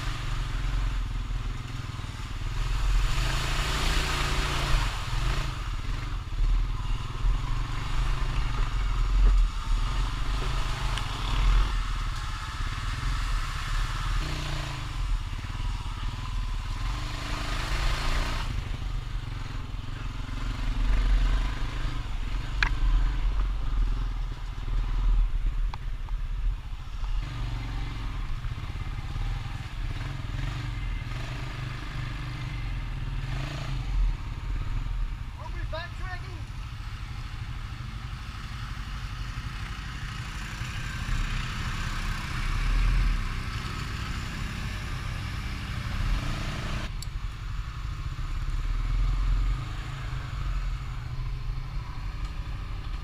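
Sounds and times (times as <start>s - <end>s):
atv engine revving: 0.0s - 25.2s, 27.0s - 47.2s.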